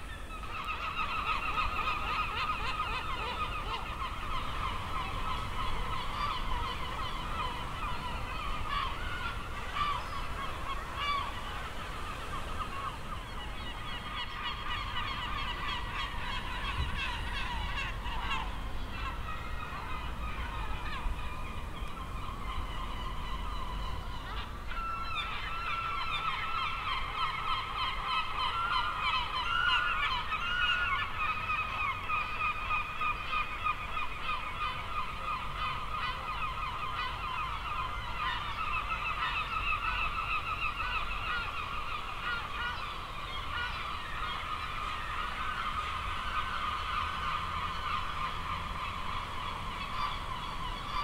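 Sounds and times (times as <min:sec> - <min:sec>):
flock of birds calling: 0:00.0 - 0:51.0.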